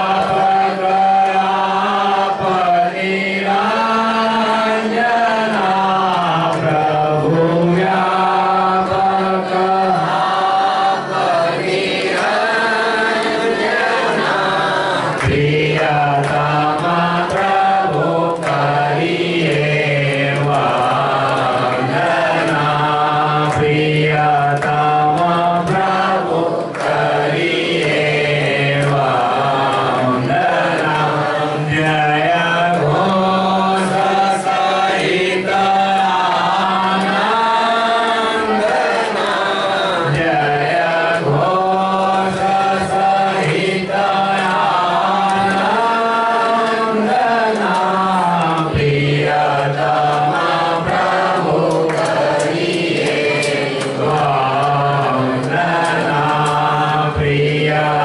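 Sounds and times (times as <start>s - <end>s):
group chanting a hymn: 0.0s - 58.0s.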